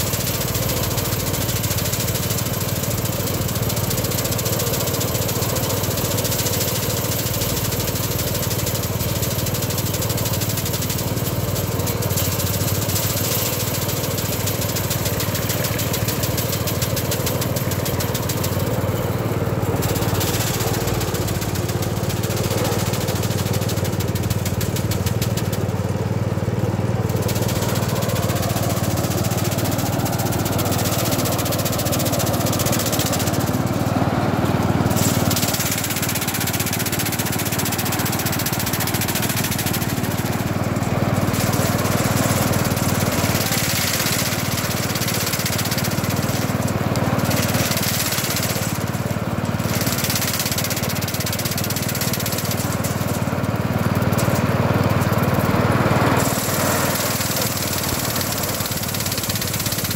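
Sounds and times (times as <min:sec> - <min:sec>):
rice thresher running: 0:00.0 - 0:59.9.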